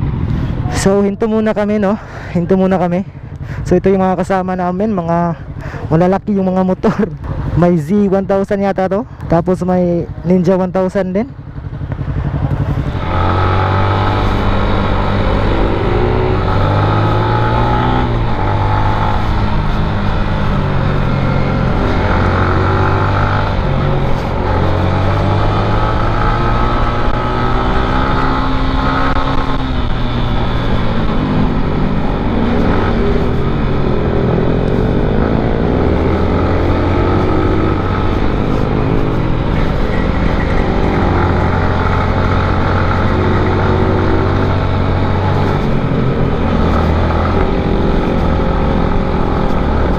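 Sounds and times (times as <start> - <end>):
motorcycle engine accelerating: 9.3 - 49.9.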